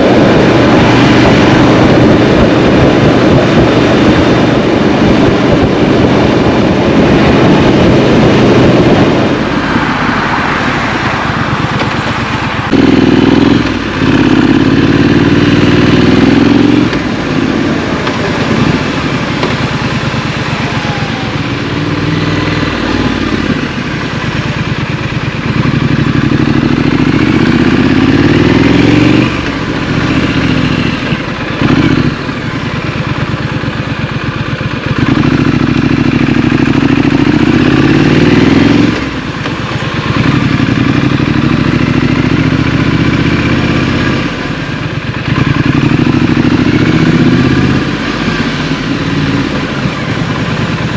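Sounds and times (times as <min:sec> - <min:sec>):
city traffic: 0:00.0 - 0:50.9
motorcycle engine revving: 0:00.0 - 0:50.9.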